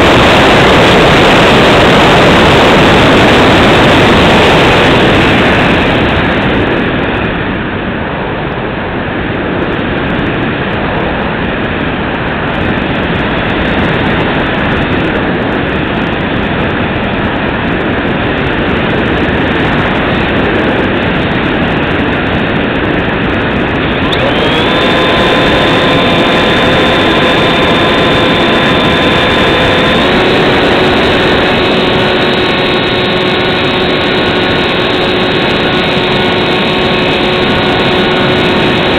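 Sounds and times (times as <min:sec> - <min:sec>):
air rushing over microphone: 0:00.0 - 0:38.9
electric motor and propeller whine: 0:00.0 - 0:38.9.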